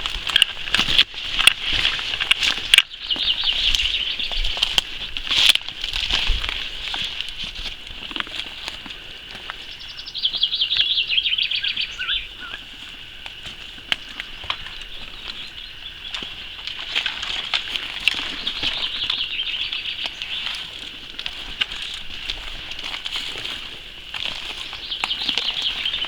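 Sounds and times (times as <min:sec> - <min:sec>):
songbirds trilling: 0:00.0 - 0:26.0.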